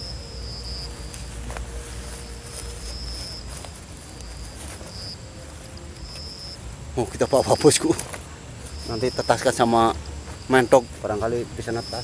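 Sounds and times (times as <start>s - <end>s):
crickets trilling: 0.0s - 12.0s
hands rustling dry grass: 0.0s - 12.0s.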